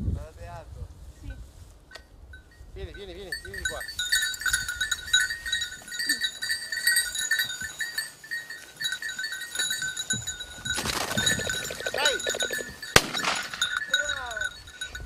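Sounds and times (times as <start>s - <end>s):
small metal bell clinking: 2.4s - 15.0s.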